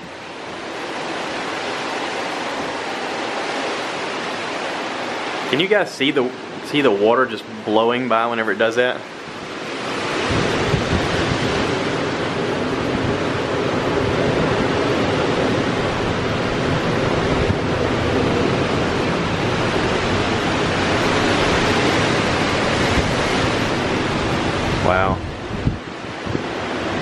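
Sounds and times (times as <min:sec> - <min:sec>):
hurricane wind blowing: 0:00.0 - 0:27.0
rain: 0:00.0 - 0:27.0
wind rumbling on microphone: 0:00.0 - 0:27.0.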